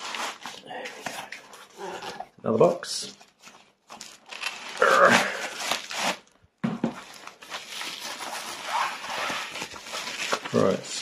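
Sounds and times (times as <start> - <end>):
bubble wrap crinkling: 0.0 - 2.2, 3.1 - 11.0.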